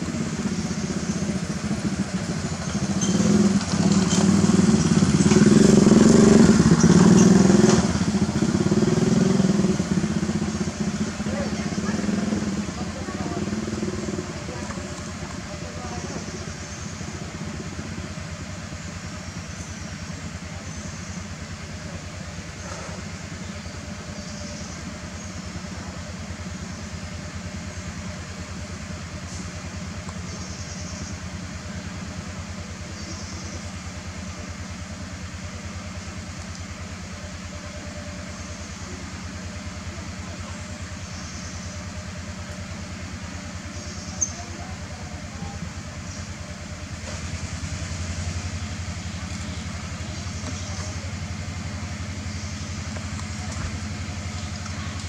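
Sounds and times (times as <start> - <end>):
low engine drone: 0.0 - 55.0.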